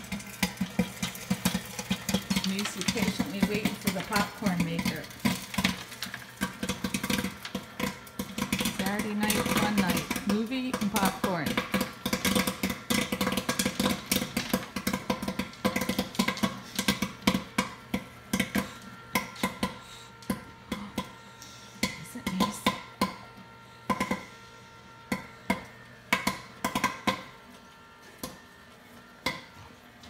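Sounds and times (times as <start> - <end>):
popcorn popping: 0.0 - 30.0.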